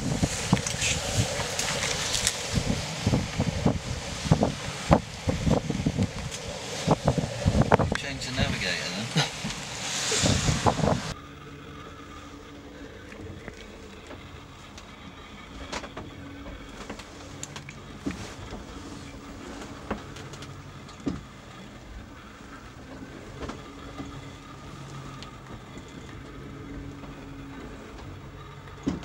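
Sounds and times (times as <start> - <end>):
boat engine hum: 0.0 - 29.0.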